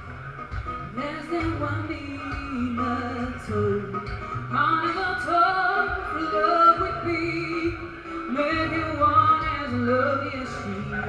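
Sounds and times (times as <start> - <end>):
acoustic guitar: 0.0 - 11.0
woman singing: 0.9 - 11.0.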